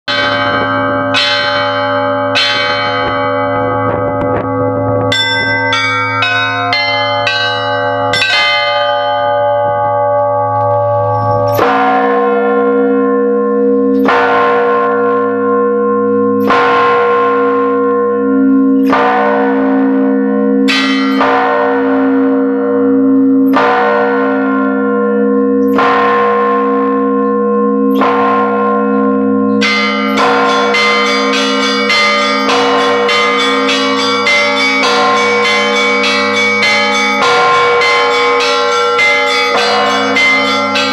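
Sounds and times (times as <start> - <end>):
large bells ringing: 0.1 - 40.9.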